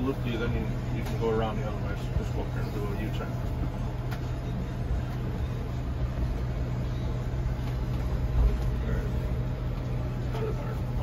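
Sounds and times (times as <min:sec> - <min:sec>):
vehicle drive-train hum and rumble: 0:00.0 - 0:11.0.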